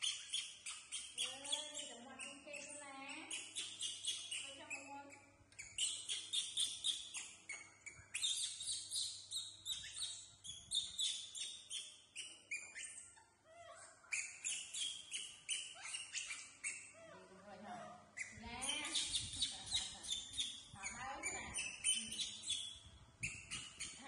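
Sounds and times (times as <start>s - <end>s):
rapid high-pitched chirping: 0.0s - 17.1s, 18.2s - 24.0s.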